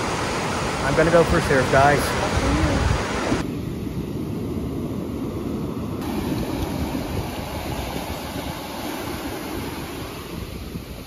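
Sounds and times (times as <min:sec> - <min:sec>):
ocean surf: 0:00.0 - 0:11.0
wind buffeting microphone: 0:01.8 - 0:11.0.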